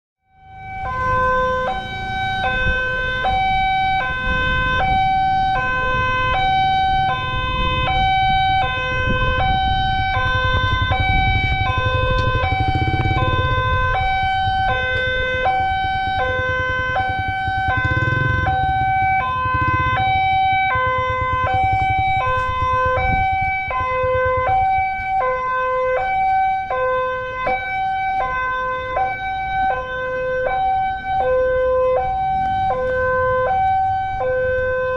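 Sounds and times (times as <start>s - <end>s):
two-tone electronic alarm: 0.3s - 34.9s.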